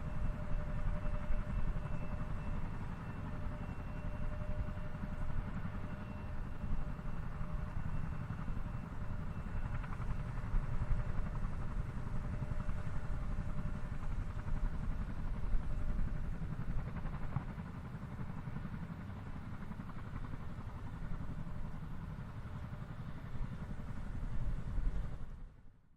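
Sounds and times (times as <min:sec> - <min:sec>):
faint whining tones: 0:00.0 - 0:25.7.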